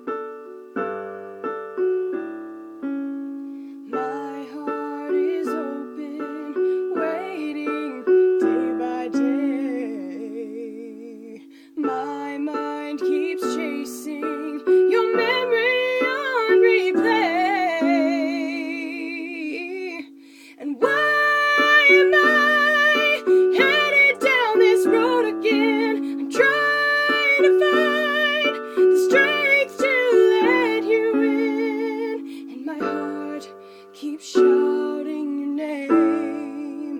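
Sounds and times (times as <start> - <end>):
woman singing slow song: 3.9 - 36.9.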